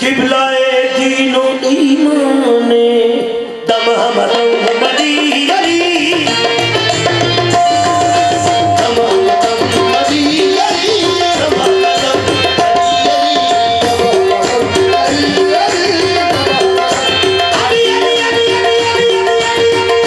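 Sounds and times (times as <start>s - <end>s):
harmonium melody: 1.1s - 20.0s
tabla drumming: 3.7s - 20.0s.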